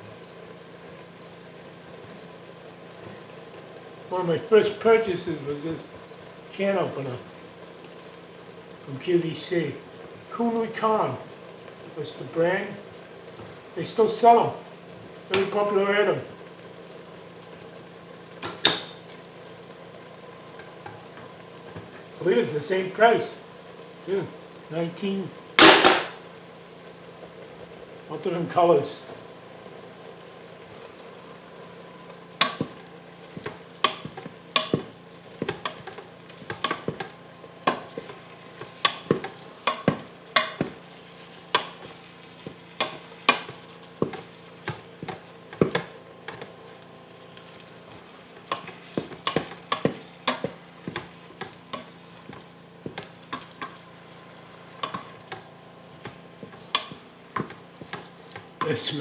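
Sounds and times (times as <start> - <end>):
faint sizzle: 0.0 - 59.0.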